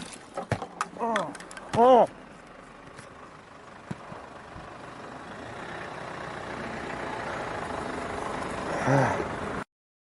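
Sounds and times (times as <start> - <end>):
vehicle and road rumble: 0.0 - 9.7.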